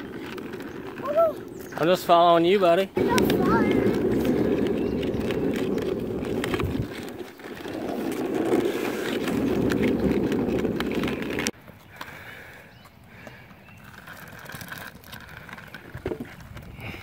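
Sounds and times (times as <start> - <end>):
small wheels rolling on asphalt: 0.0 - 17.0.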